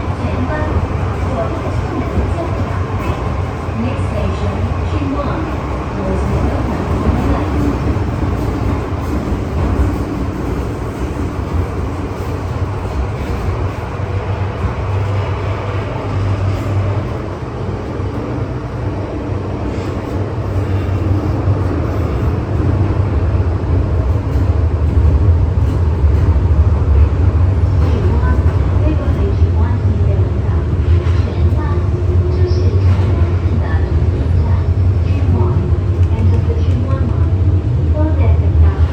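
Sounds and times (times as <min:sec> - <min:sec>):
electric train rumbling on track: 0:00.0 - 0:38.9.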